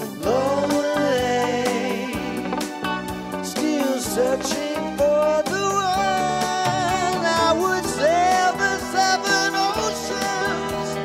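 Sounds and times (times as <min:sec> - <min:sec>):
theme music with steady beat: 0:00.0 - 0:11.0.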